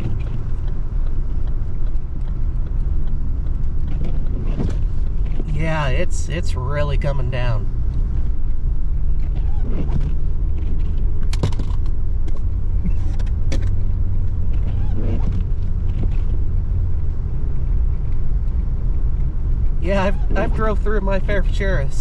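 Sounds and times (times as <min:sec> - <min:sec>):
car driving on snowy road: 0:00.0 - 0:22.0.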